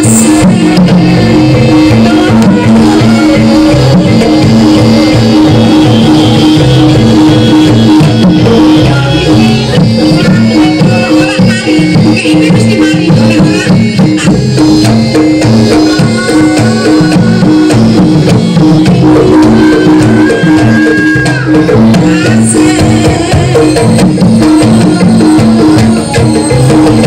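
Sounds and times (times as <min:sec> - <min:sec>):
drums and pitched percussion music: 0:00.0 - 0:27.0.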